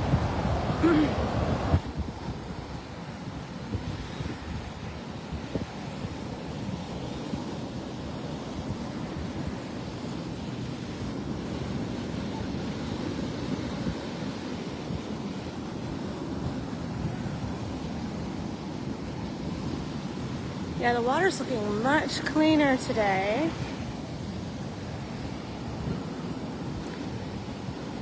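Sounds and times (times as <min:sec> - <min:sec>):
surf washing onto beach: 0:00.0 - 0:28.0
wind rumbling on microphone: 0:00.0 - 0:28.0.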